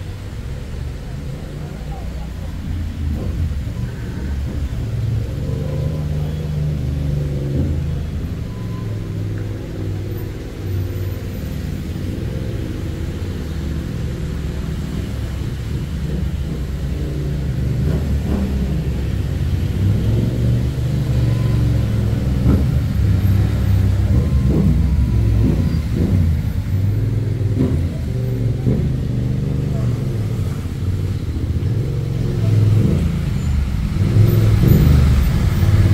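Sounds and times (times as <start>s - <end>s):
road noise: 0.0s - 35.9s
vehicle engine rumble: 0.0s - 35.9s.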